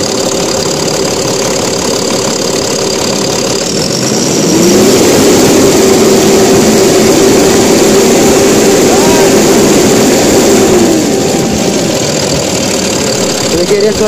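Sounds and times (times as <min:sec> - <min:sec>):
diesel truck engine idling and revving: 0:00.0 - 0:14.0.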